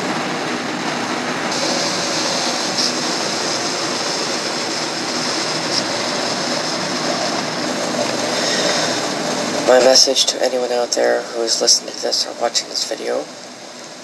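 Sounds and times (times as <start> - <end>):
high hiss: 0.0 - 14.0
steady rushing noise: 0.0 - 14.0.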